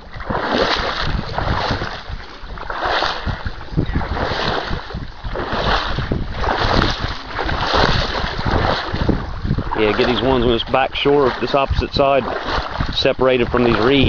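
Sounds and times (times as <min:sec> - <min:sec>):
steps wading through shallow water: 0:00.0 - 0:14.0
wind buffeting microphone: 0:00.0 - 0:14.0.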